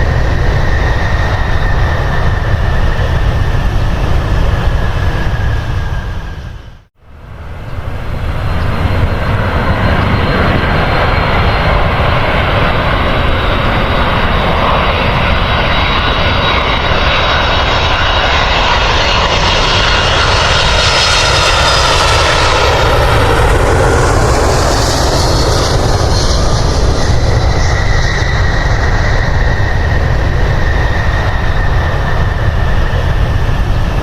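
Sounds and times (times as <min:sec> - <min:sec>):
airliner engines roaring: 0:00.0 - 0:34.0
high engine whine: 0:00.0 - 0:34.0.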